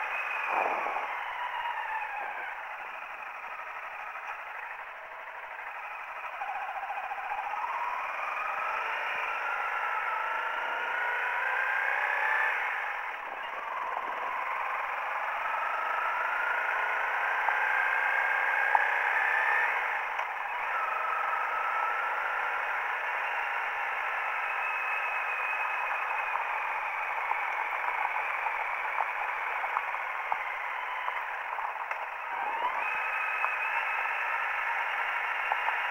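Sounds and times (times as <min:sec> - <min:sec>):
motorcycle engine accelerating: 0:00.0 - 0:35.9
wind and tyre rush: 0:00.0 - 0:35.9.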